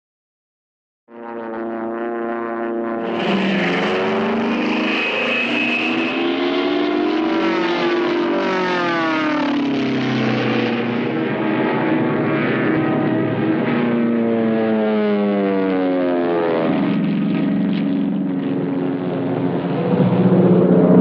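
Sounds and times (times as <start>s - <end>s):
propeller planes droning past: 1.1s - 21.0s.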